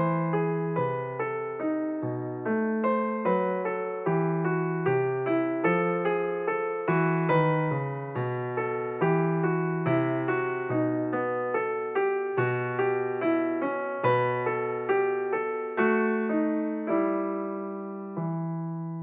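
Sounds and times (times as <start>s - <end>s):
gentle piano piece: 0.0s - 19.0s.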